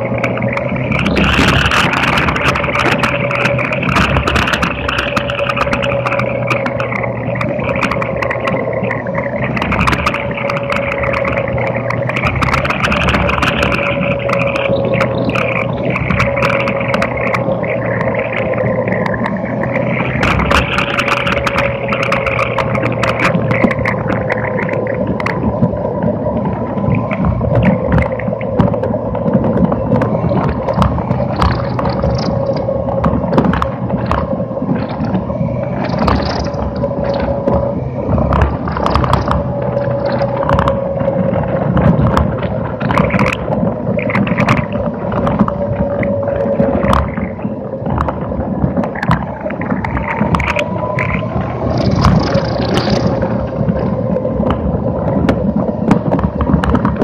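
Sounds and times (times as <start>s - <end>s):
chassis clicks and rattles: 0.0s - 57.0s.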